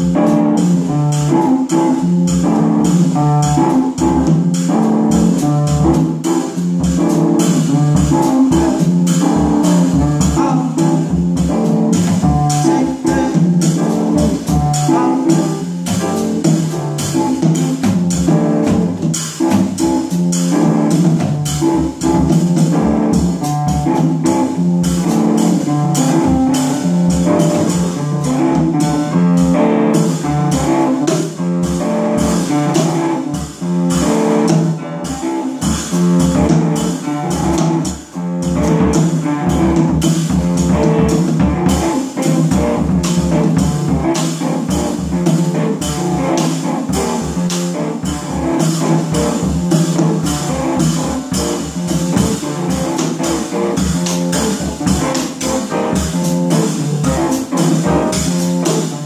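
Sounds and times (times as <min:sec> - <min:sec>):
drum kit on cymbals and drums: 0:00.0 - 0:59.0
guitar: 0:00.0 - 0:59.0
piano: 0:00.0 - 0:59.0.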